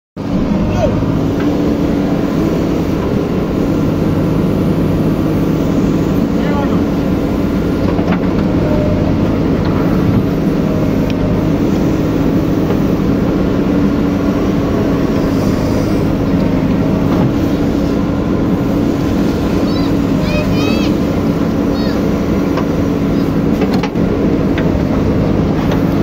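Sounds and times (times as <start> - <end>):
diesel engine droning: 0.2 - 26.0.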